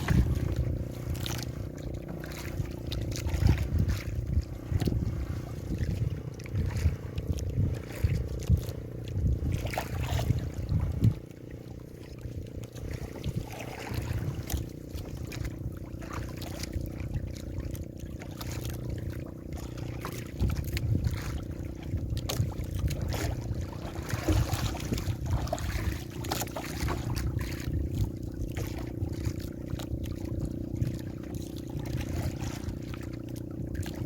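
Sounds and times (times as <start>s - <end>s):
boat engine running: 0.0s - 34.0s
water splashing against hull: 0.0s - 34.0s.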